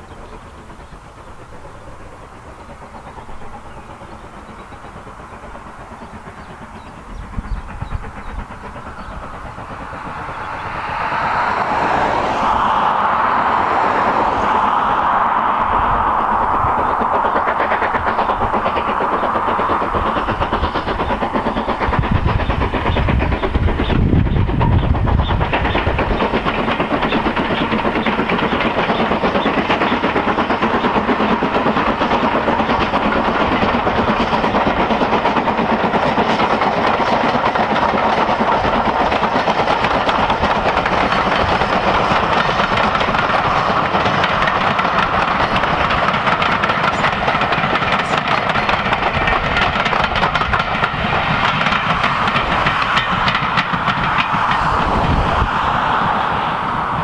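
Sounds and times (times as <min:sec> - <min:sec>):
steam hiss: 0:00.0 - 0:57.0
steam locomotive passing: 0:00.0 - 0:57.0
train wheels clickety-clack: 0:00.0 - 0:57.0.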